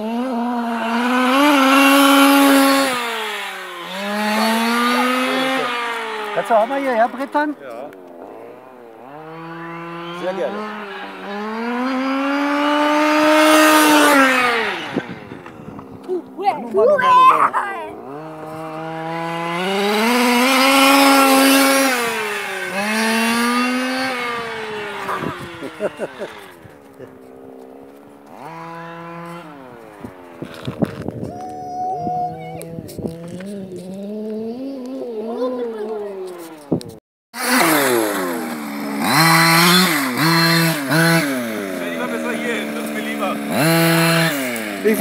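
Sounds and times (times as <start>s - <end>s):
model truck engine revving: 0.0s - 15.9s, 17.9s - 31.0s, 32.6s - 36.8s, 37.4s - 45.0s.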